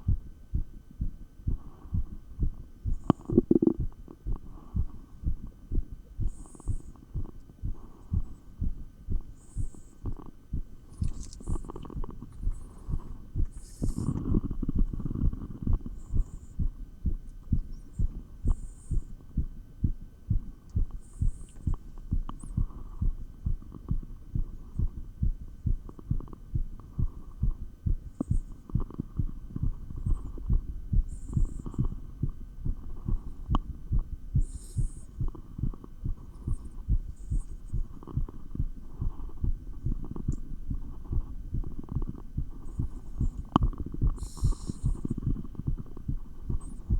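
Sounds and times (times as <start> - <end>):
fast heartbeat through stethoscope: 0.0 - 46.9
steady low hum: 0.0 - 46.9.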